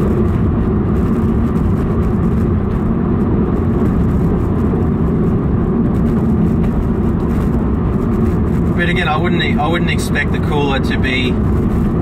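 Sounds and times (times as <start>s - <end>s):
car engine running steadily: 0.0s - 12.0s
road noise inside car: 0.0s - 12.0s.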